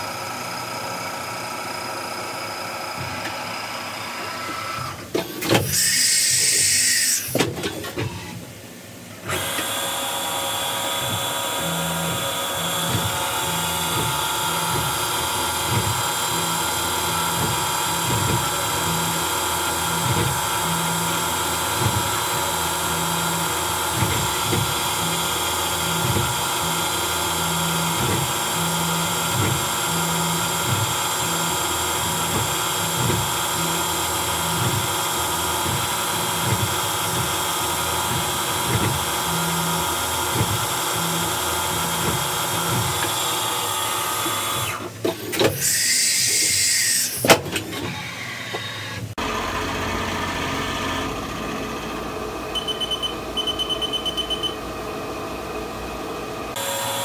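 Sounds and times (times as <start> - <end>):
mill spindle whining: 9.2 - 57.0.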